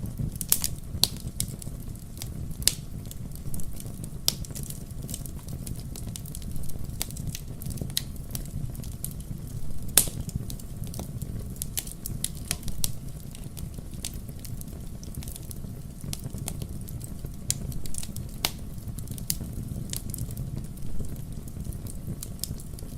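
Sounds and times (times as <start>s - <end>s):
firewood crackling and popping: 0.0s - 22.9s
low rumble of fire: 0.0s - 22.9s.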